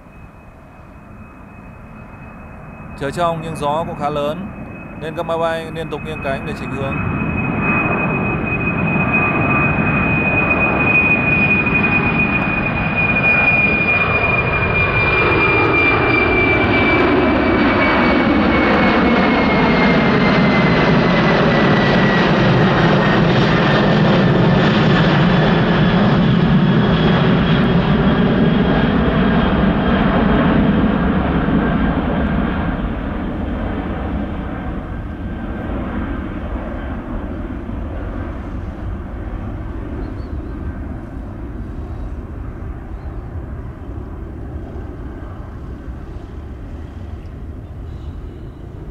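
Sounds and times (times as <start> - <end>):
high fan whine: 0.0 - 48.9
jet engine roar overhead: 0.0 - 48.9.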